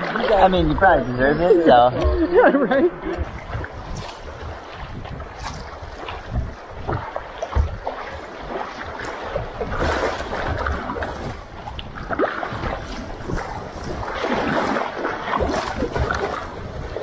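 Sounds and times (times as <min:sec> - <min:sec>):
kayak paddle strokes splashing: 0:00.0 - 0:17.0
river water rushing: 0:00.0 - 0:17.0
wind buffeting microphone: 0:00.0 - 0:17.0.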